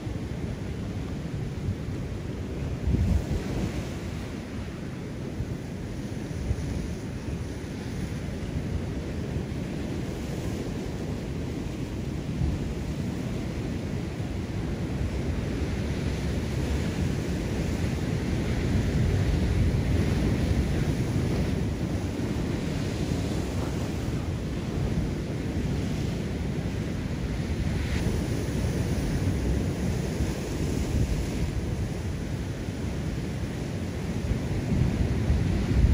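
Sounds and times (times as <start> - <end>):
wind rumbling on microphone: 0.0 - 35.9
surf breaking on rocky shore: 1.6 - 35.9.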